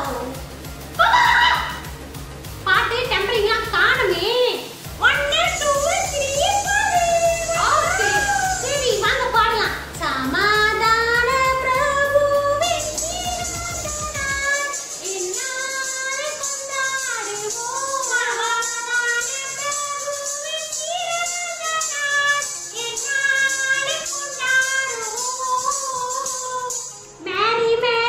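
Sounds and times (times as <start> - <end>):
high singing voice: 0.0 - 0.4, 5.0 - 28.0
backing music: 0.0 - 28.0.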